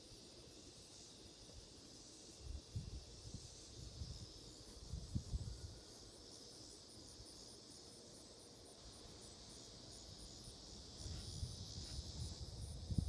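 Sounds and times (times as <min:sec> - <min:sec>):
high buzz of insect song: 0:00.0 - 0:13.0
insects chirping: 0:00.0 - 0:13.0.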